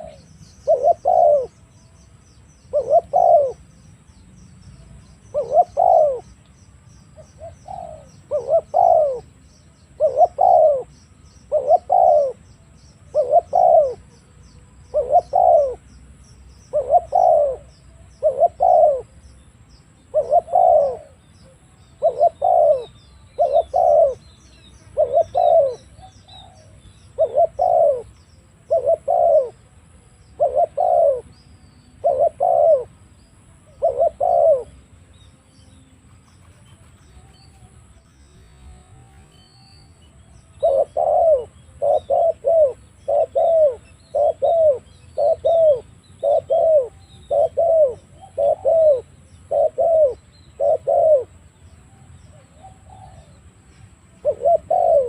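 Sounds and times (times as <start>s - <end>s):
dove cooing: 0.0s - 1.9s, 2.5s - 3.9s, 4.8s - 6.4s, 7.1s - 19.3s, 20.0s - 31.4s, 32.0s - 34.9s, 36.3s - 55.0s.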